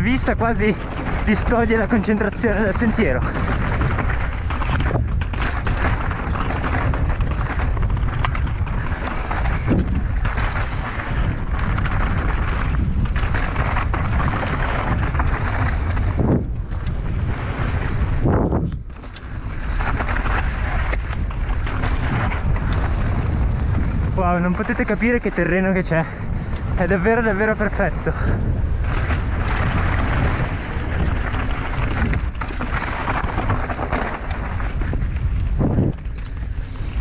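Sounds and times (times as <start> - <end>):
bike rattling over rocks: 0.0 - 37.0
tyres rolling on dirt and stones: 0.0 - 37.0
wind rushing over microphone: 0.0 - 37.0.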